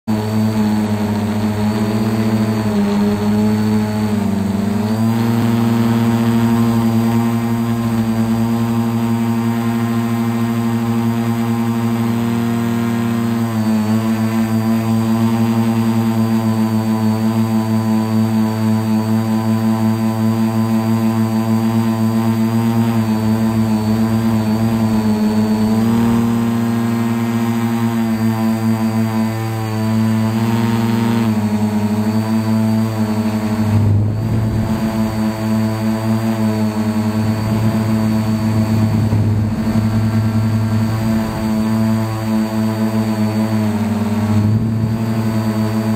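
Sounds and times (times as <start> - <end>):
quadcopter motors whining: 0.1 - 45.9.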